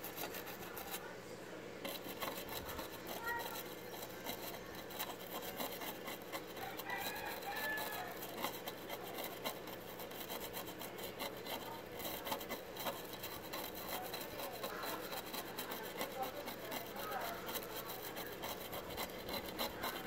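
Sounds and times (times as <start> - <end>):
scraping on circuit board: 0.0 - 1.2, 1.8 - 20.0.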